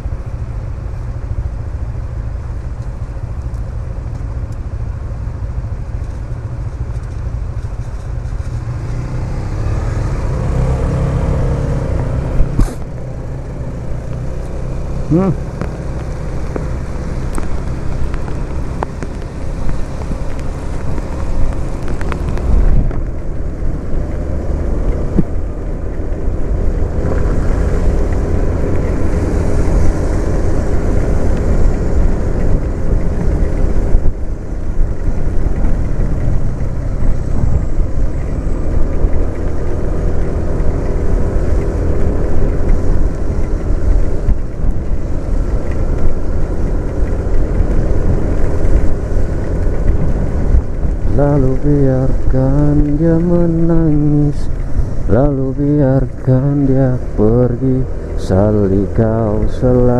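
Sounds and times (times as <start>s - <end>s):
tyres on wet asphalt: 0.0s - 59.9s
wind rumble on microphone: 0.0s - 59.9s.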